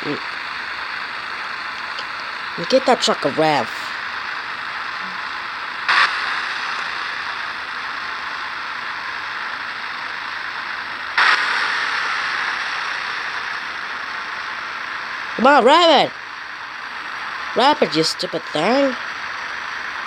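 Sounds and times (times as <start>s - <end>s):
engine throttle blips: 0.0s - 20.0s
truck engine idling: 0.0s - 20.0s.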